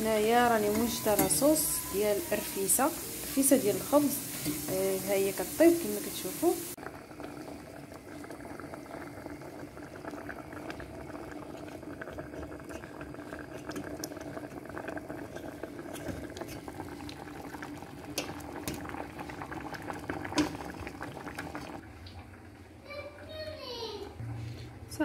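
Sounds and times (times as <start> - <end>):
liquid bubbling in a pot: 0.0 - 22.8.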